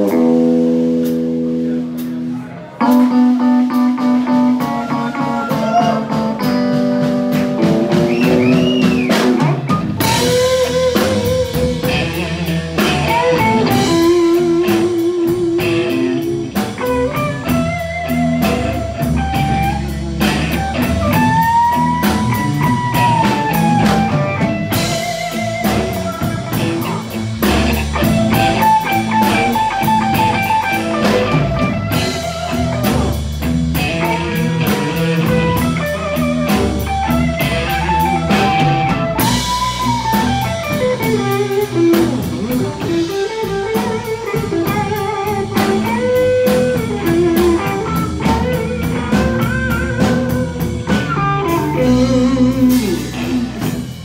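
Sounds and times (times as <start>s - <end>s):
blues rock guitar melody: 0.0s - 54.0s
drums and bass: 0.0s - 54.0s.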